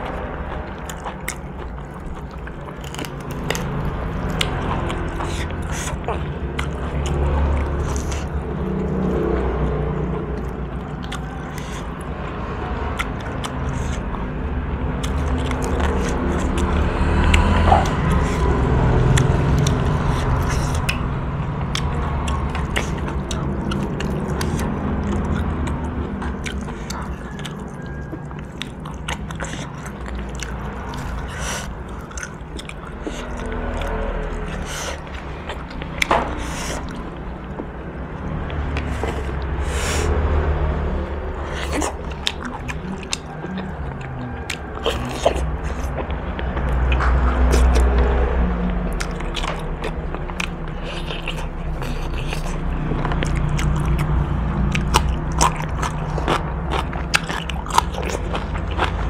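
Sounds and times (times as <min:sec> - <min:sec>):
chewing: 0:00.0 - 0:59.0
low steady rumble: 0:00.0 - 0:59.0.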